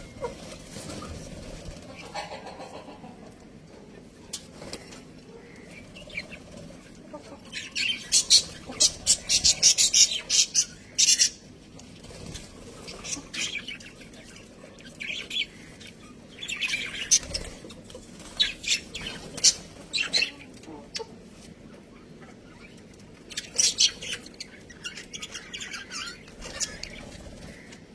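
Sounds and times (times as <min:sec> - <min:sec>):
budgerigars chirping and squawking: 0:00.0 - 0:03.2, 0:04.6 - 0:27.9.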